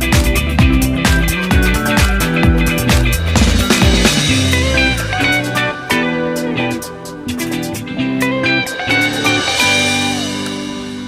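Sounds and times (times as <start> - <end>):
guitar music over a beat: 0.0 - 11.0.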